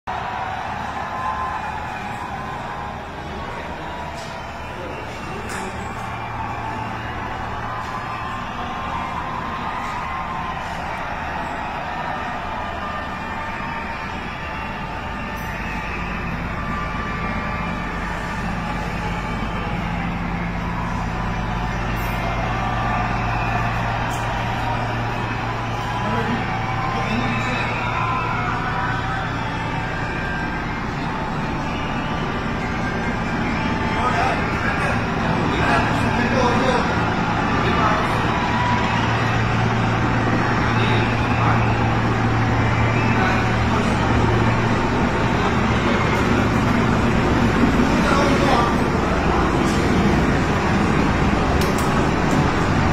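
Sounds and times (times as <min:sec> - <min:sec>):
helicopter flying overhead: 0:00.1 - 0:52.9.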